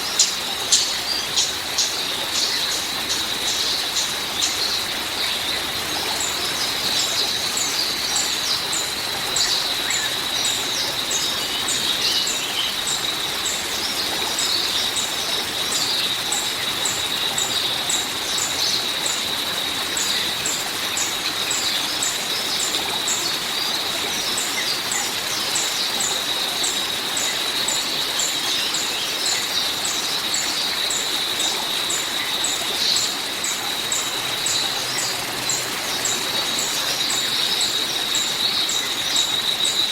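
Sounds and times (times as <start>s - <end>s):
birds chirping: 0.0s - 39.9s
rain-like hiss: 0.0s - 39.9s.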